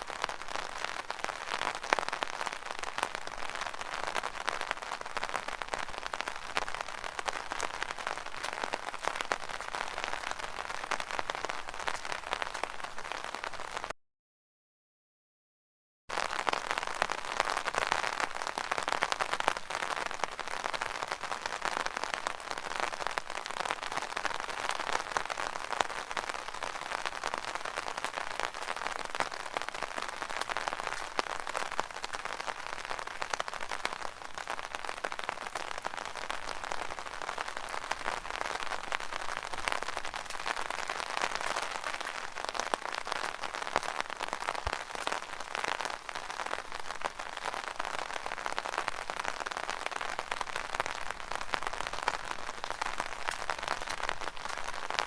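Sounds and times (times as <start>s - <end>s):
rain on an umbrella: 0.0s - 14.0s, 16.1s - 55.0s.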